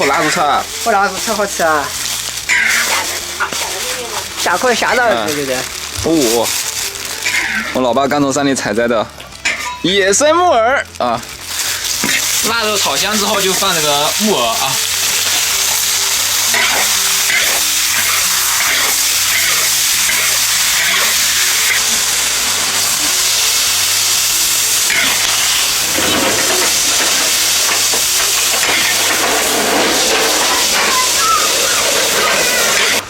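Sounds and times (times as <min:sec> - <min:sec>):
food sizzling in a hot wok: 0:00.0 - 0:33.0.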